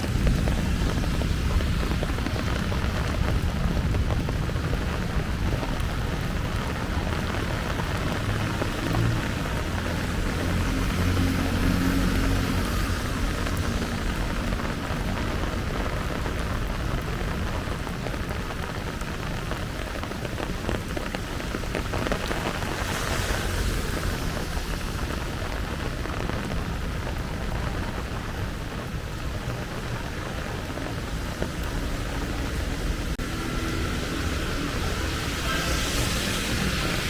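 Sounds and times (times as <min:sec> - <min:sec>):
heavy rain on pavement: 0:00.0 - 0:37.0.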